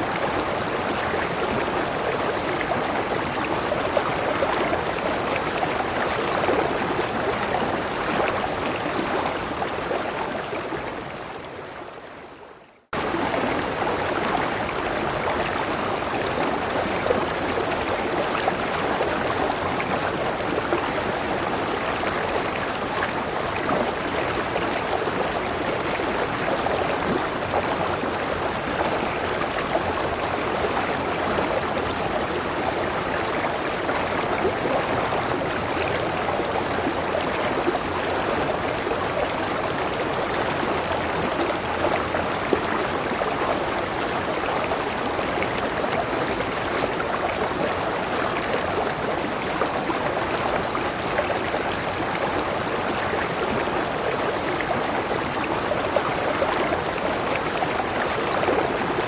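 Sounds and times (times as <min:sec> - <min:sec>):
rushing water of waterfall: 0:00.0 - 0:59.0.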